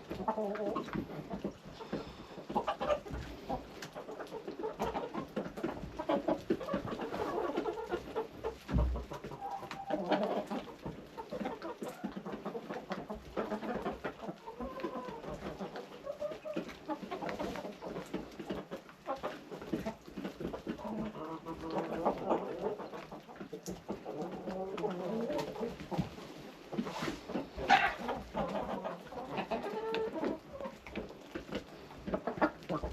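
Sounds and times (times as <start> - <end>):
hens clucking: 0.0 - 32.9.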